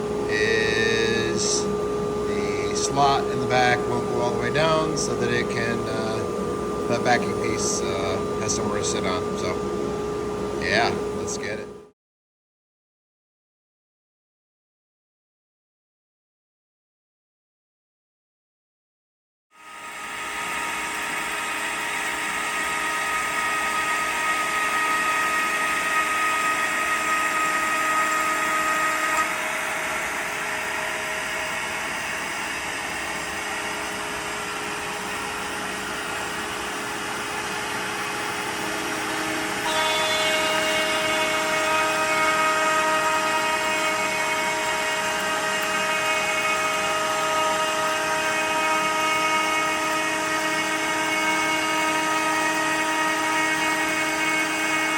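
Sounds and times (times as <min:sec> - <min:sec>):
router spindle whining: 0:00.0 - 0:11.7, 0:19.6 - 0:54.9.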